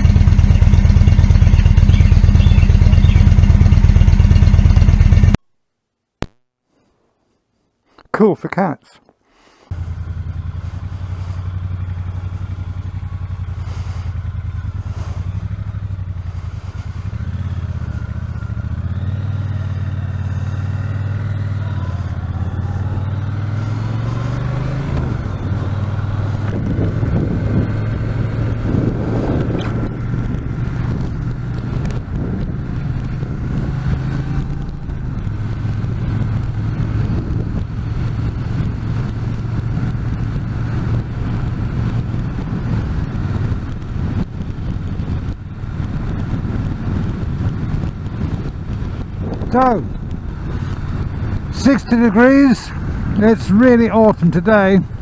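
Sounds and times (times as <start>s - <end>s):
motorcycle engine revving: 0.0s - 5.4s, 9.7s - 55.0s.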